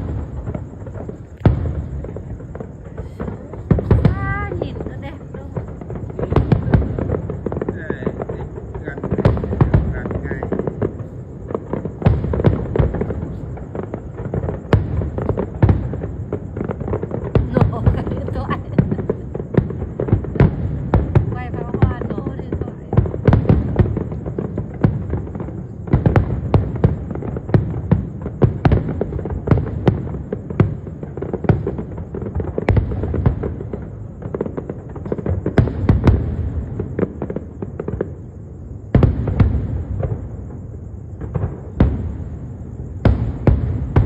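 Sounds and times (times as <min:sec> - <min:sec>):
fireworks bangs: 0:00.0 - 0:44.0
low rumble of explosions: 0:00.0 - 0:44.0.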